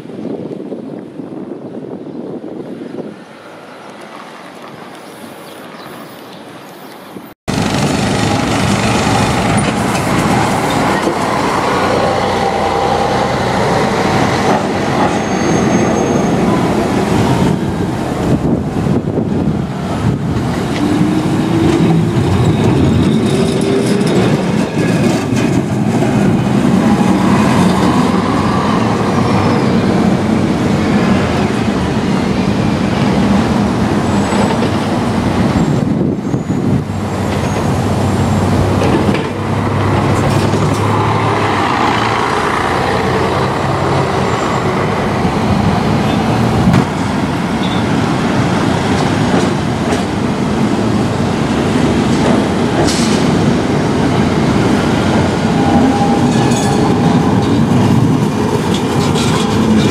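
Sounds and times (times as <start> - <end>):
city traffic noise: 0.0 - 59.9
tram rumbling on rails: 0.0 - 59.9.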